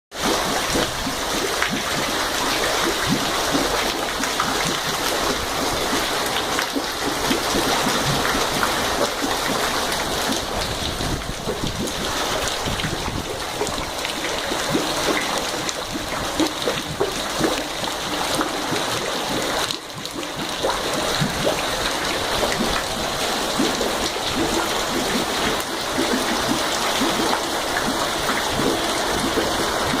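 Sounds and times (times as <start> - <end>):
rain pattering: 0.1 - 30.0
water rushing from storm drains: 0.1 - 30.0.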